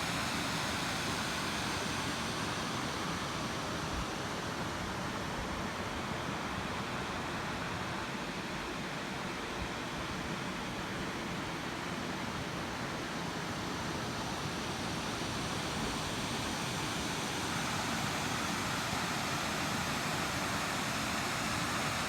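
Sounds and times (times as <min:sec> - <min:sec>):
waterfall and stream rushing: 0:00.0 - 0:22.0.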